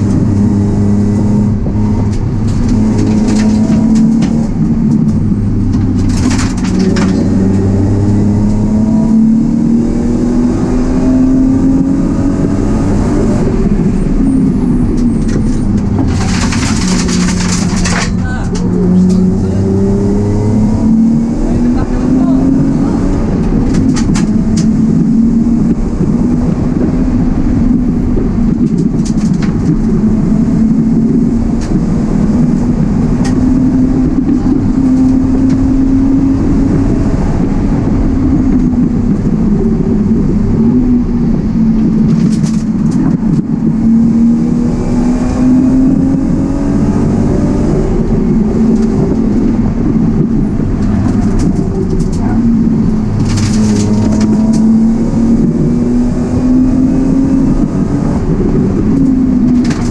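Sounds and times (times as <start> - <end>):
car engine droning under load: 0.0 - 59.9.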